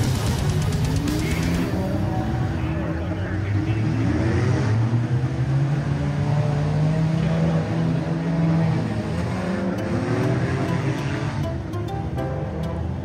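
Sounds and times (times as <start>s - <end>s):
car engine revving: 0.0s - 12.2s.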